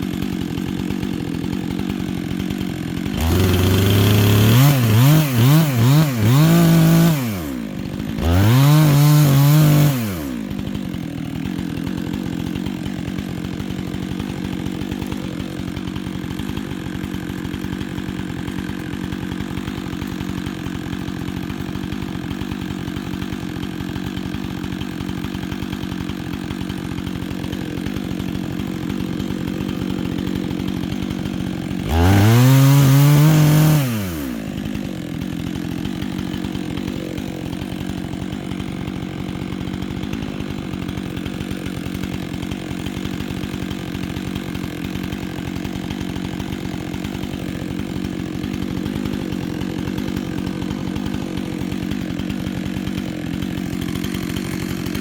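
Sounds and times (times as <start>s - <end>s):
chainsaw engine revving: 0.0s - 55.0s
chainsaw idling: 0.0s - 55.0s.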